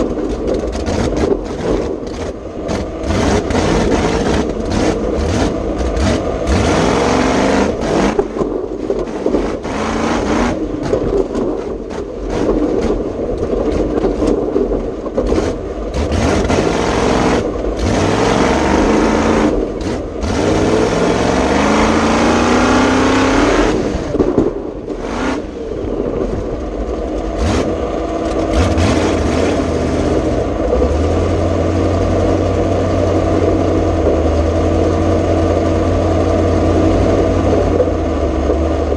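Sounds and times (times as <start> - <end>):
race truck engine revving: 0.0 - 14.4, 15.0 - 38.9.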